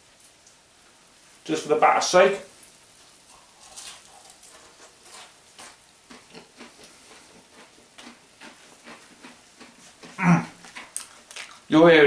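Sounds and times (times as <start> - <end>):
hot fat sizzling and crackling: 0.0 - 12.0.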